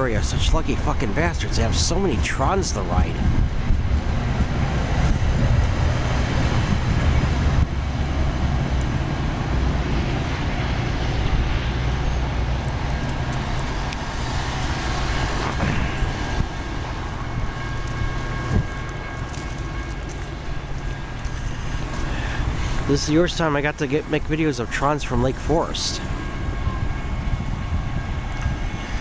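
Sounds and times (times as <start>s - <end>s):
wind on microphone: 0.0s - 23.5s, 25.5s - 29.0s
diesel locomotive engine drone: 0.0s - 29.0s.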